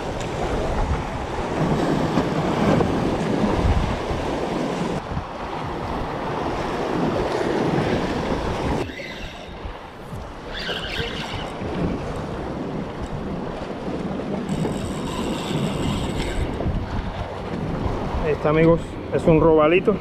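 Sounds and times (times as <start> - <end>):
sea waves washing against rocks: 0.0 - 14.8, 15.5 - 20.0
wind buffeting microphone: 0.0 - 20.0.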